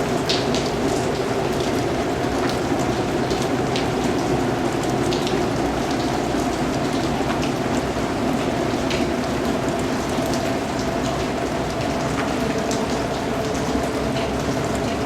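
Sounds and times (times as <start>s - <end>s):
rain pattering: 0.0s - 15.0s
water drips: 0.1s - 15.0s.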